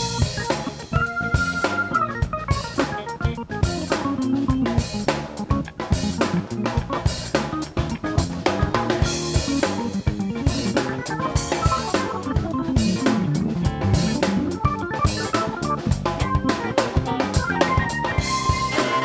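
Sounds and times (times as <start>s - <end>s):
bass line: 0.0s - 19.0s
drum kit groove: 0.0s - 19.0s
funk band playing: 0.0s - 19.0s.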